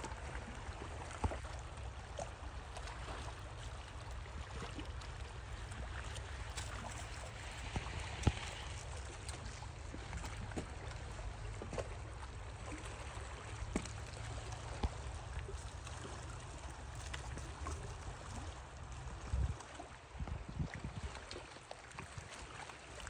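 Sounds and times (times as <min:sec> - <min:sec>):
stream water running: 0:00.0 - 0:23.0
wind rumble on microphone: 0:02.5 - 0:23.0.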